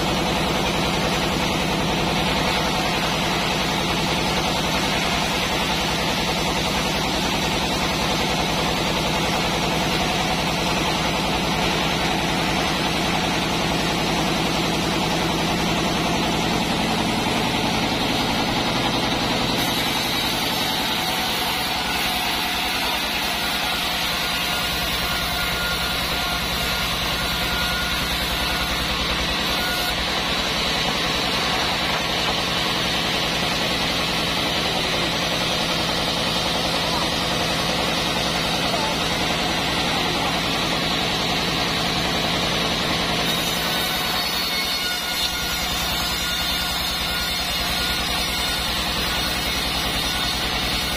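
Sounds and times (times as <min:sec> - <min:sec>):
band sawmill running: 0:00.0 - 0:50.9
saw blade cutting wood plank: 0:00.0 - 0:50.9.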